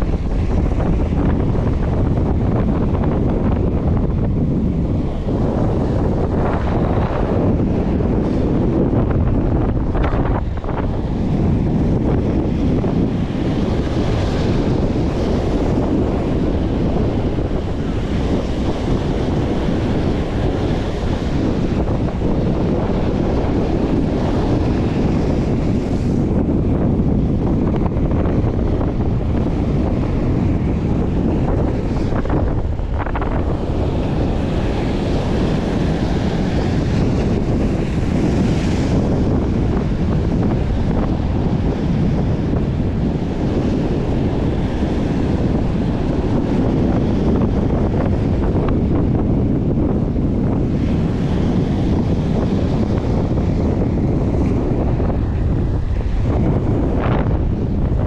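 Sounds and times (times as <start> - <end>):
surf washing on shore: 0.0 - 58.0
wind buffeting microphone: 0.0 - 58.0.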